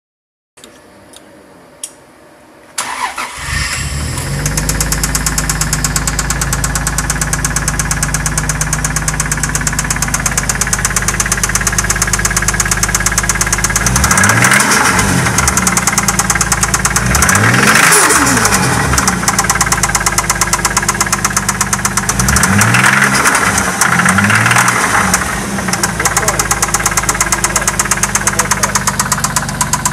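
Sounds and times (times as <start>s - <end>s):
engine revving: 2.8s - 29.9s
engine starting and idling: 2.8s - 29.9s
engine knock: 4.8s - 29.9s.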